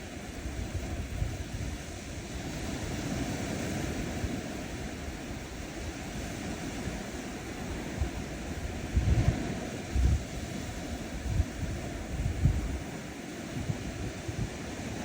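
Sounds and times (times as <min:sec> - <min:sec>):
waves washing on sandy shore: 0:00.0 - 0:15.0.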